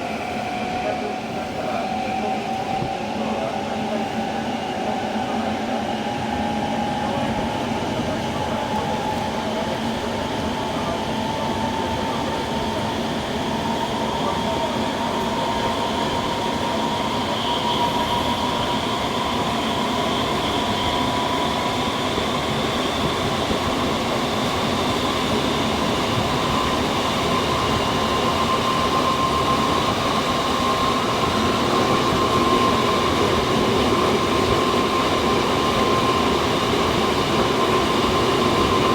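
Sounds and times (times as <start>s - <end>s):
train inverter whine: 0.0s - 38.9s
train wheel and running noise: 0.0s - 38.9s.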